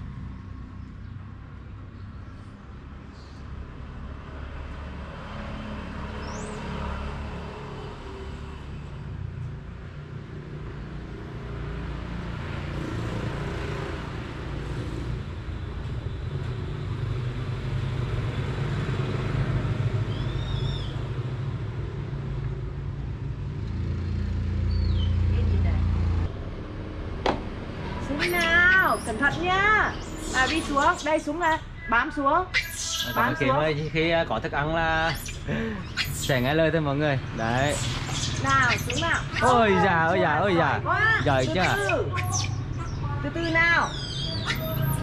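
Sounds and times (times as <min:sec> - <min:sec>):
road traffic rumble: 0:00.0 - 0:45.0
vehicle passing: 0:03.5 - 0:15.6, 0:16.6 - 0:45.0.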